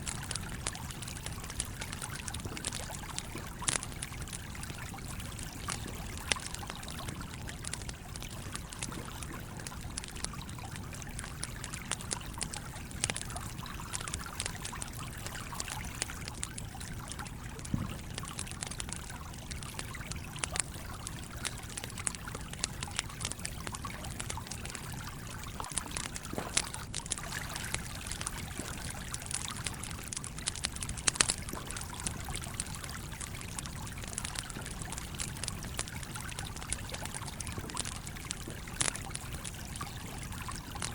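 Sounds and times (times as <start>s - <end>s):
campfire crackling and popping: 0.0s - 40.9s
stream water trickling: 0.0s - 40.9s.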